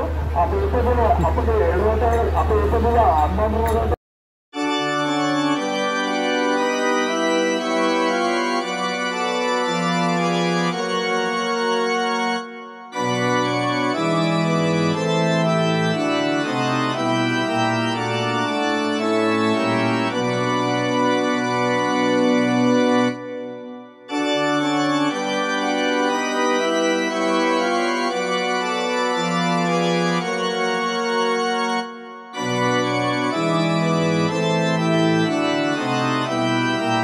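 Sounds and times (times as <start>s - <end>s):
slow organ chords: 4.6s - 37.0s.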